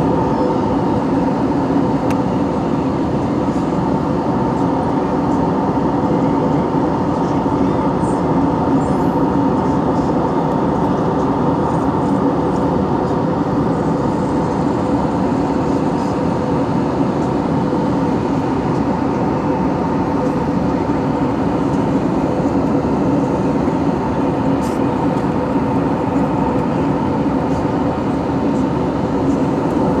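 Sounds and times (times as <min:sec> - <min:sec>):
jet engine cabin drone: 0:00.0 - 0:30.0.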